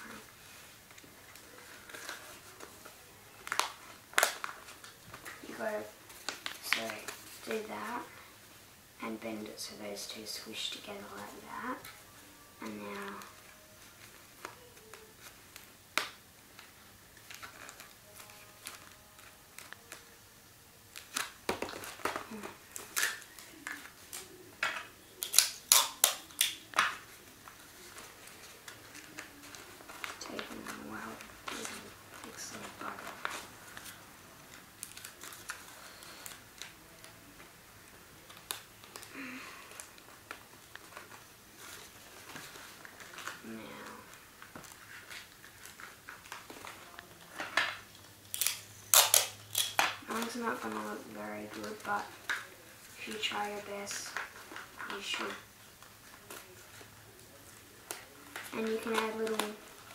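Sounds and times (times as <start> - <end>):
paper and tape rustling: 0.0 - 8.2, 9.1 - 20.2, 20.8 - 59.9.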